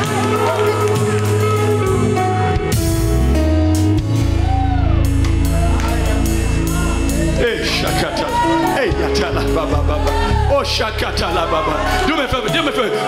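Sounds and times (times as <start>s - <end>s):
drum kit beat: 0.0s - 11.5s
bass line: 0.0s - 13.0s
upbeat praise band music: 0.0s - 13.0s.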